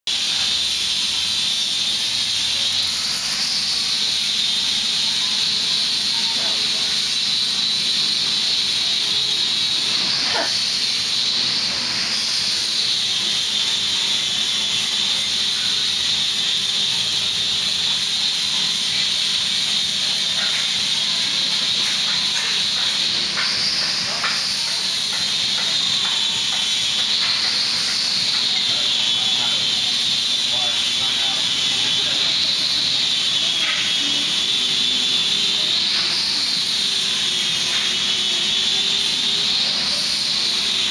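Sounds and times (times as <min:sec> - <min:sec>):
steam hissing: 0:00.1 - 0:40.9.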